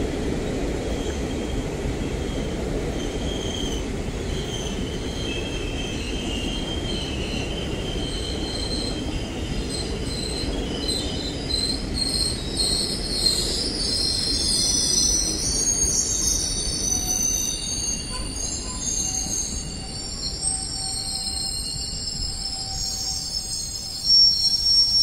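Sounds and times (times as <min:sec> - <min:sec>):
train wheels rumbling on rail: 0:00.0 - 0:25.0
high-pitched wheel squeal: 0:03.0 - 0:25.0.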